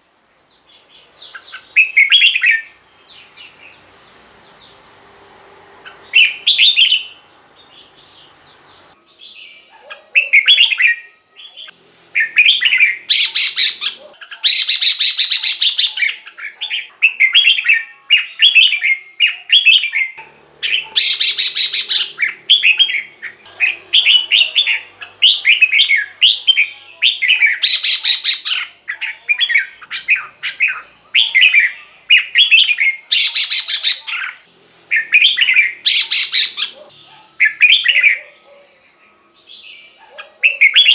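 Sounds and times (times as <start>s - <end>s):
bird warbling song: 0.5s - 4.9s, 5.8s - 40.9s.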